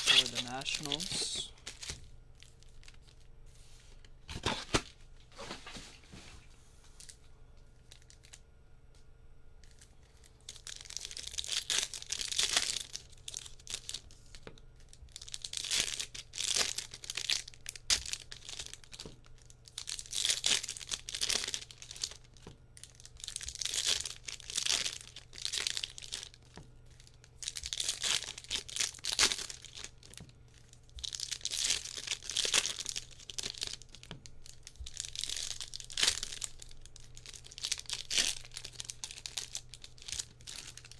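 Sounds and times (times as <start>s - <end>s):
foil wrappers tearing and crinkling: 0.0s - 3.3s, 7.9s - 8.4s, 9.6s - 40.9s.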